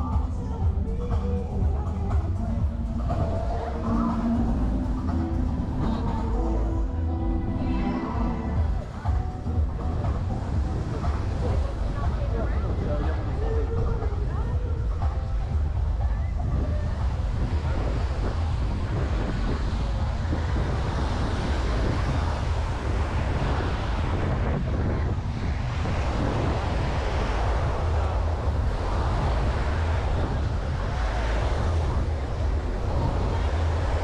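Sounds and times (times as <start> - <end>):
surf washing on sandy beach: 0.0 - 34.0
wind buffeting microphone: 0.0 - 34.0.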